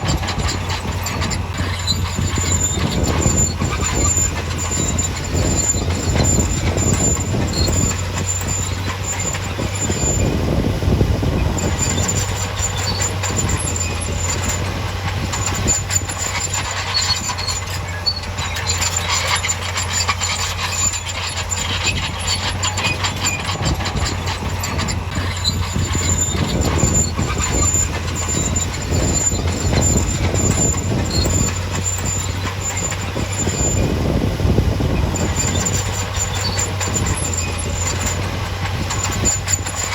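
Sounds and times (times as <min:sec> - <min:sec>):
diesel machine engine hum: 0:00.0 - 0:39.9
metallic clanking and squeaking: 0:00.0 - 0:39.9.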